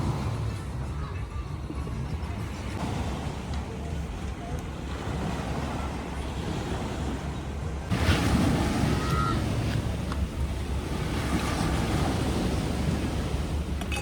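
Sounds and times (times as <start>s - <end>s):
sea surf washing: 0.0s - 14.0s
wind rumbling on microphone: 0.0s - 14.0s.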